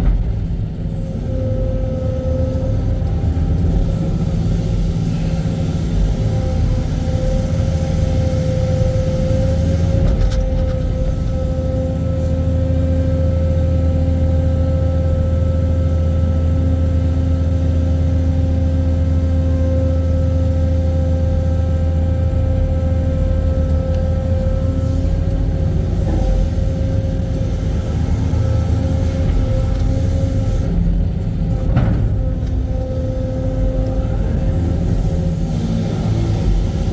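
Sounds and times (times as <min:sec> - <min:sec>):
constant high whine: 0:00.0 - 0:36.9
excavator diesel engine droning: 0:00.0 - 0:36.9.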